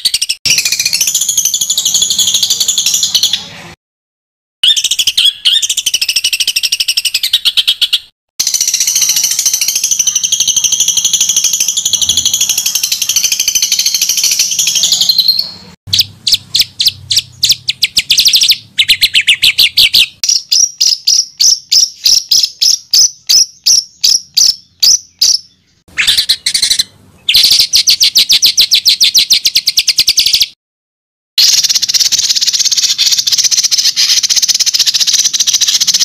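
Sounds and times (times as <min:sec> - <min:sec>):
sharp repeated bird notes: 0:00.0 - 0:03.8, 0:04.6 - 0:30.6, 0:31.4 - 0:36.0.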